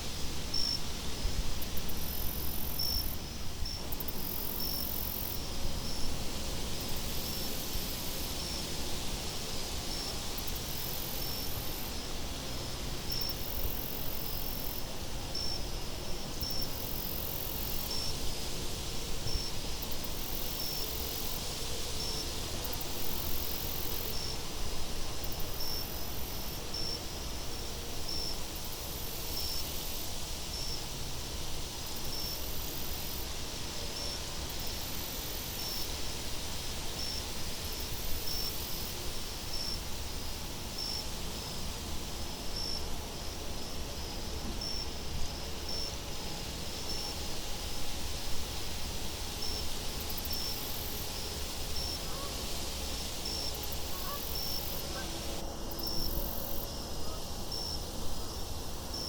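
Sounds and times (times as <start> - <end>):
crickets chirping: 0.2 - 59.0
high insect trill: 0.5 - 59.0.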